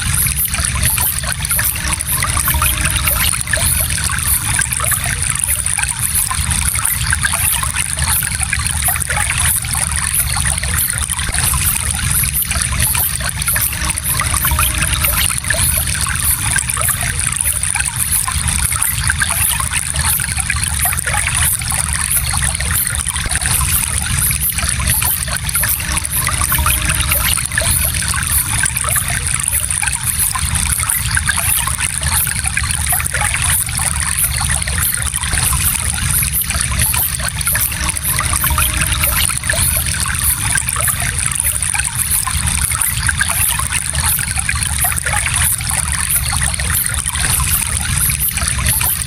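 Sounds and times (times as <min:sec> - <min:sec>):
stream trickling over stones: 0:00.0 - 0:49.0.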